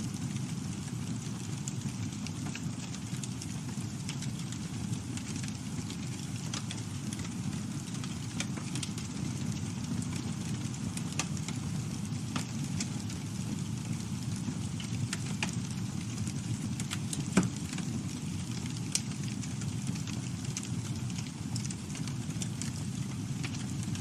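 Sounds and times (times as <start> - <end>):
campfire rumble: 0.0 - 24.0
wood crackling and popping: 0.0 - 24.0.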